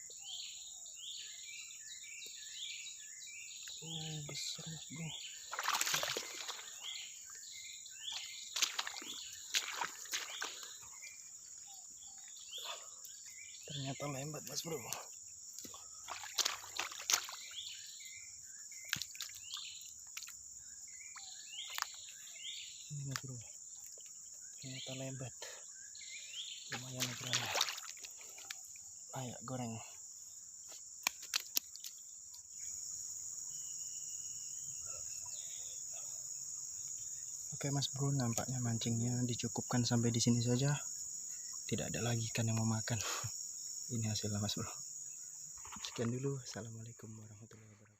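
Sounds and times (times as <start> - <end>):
high buzzing of insects: 0.0 - 47.8
crickets chirping: 0.0 - 47.9.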